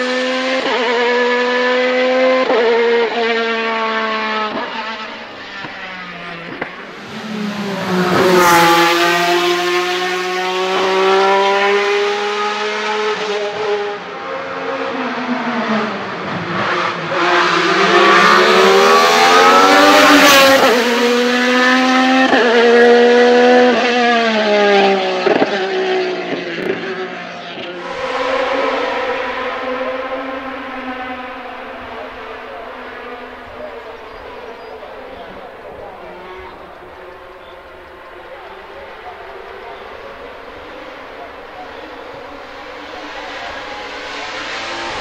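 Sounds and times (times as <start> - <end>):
racing engine revving: 0.0 - 45.0.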